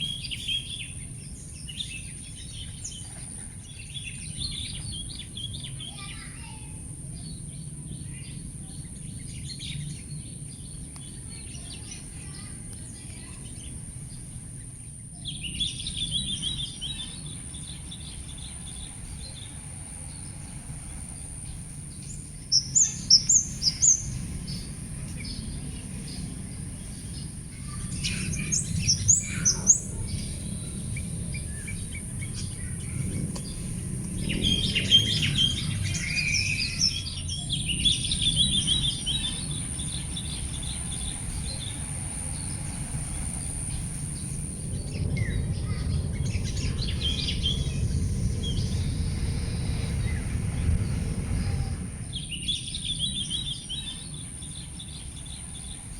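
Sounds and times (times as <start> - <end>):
birds chirping and twittering: 0.0 - 55.9
steady low hum: 6.6 - 55.9
high-pitched hiss: 10.8 - 55.9.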